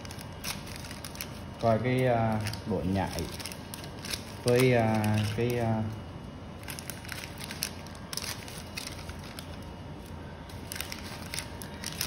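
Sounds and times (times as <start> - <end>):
foil pouches crinkling: 0.0 - 12.0.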